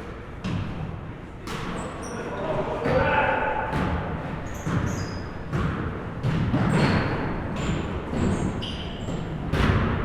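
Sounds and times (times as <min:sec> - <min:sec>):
sneakers squeaking: 0:00.3 - 0:10.0
basketballs bouncing on gym floor: 0:00.4 - 0:01.8, 0:02.8 - 0:10.0.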